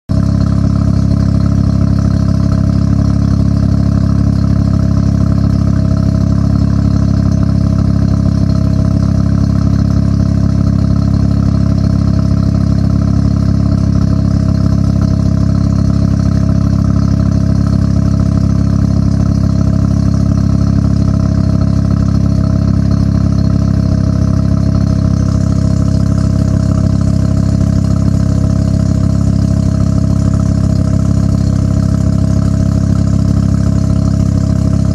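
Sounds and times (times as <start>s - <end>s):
rotary engine idling: 0.1s - 34.9s.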